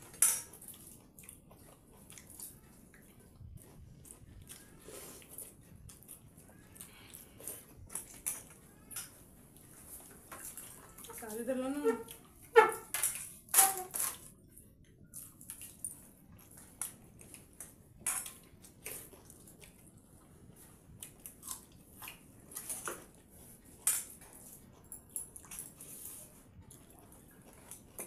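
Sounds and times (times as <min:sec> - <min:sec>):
people chewing with wet smacks: 0:00.0 - 0:13.5, 0:14.1 - 0:28.0.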